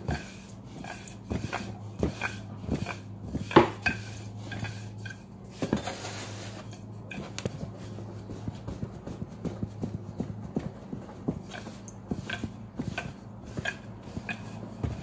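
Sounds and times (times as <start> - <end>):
rolling pin knocking and clattering: 0.0 - 6.0, 6.8 - 15.0
rolling pin rolling dough: 0.0 - 15.0.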